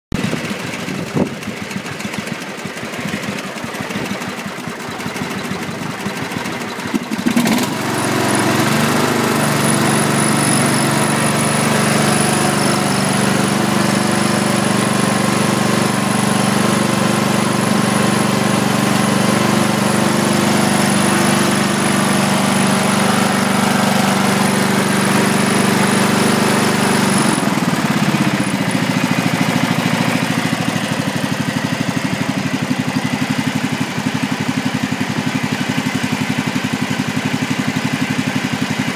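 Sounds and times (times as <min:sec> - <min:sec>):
lawn mower engine running: 0:00.1 - 0:38.9.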